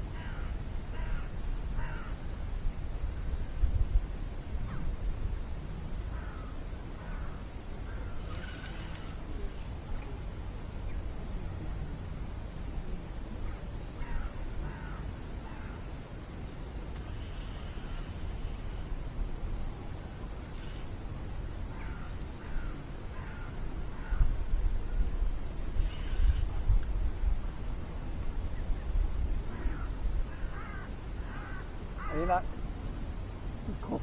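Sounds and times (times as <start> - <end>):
birds chirping and trilling: 0.0 - 5.3, 6.0 - 34.0.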